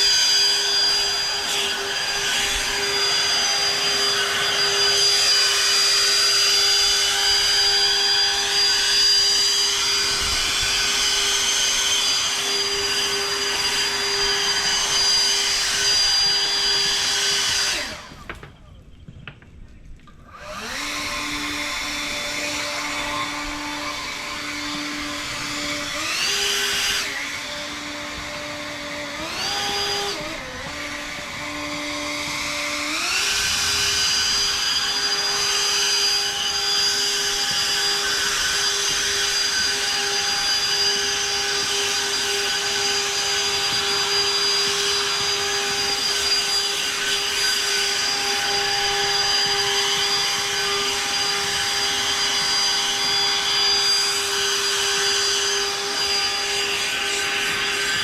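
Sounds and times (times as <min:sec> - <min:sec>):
electric lawn equipment whine: 0:00.0 - 0:18.9, 0:20.1 - 0:58.0.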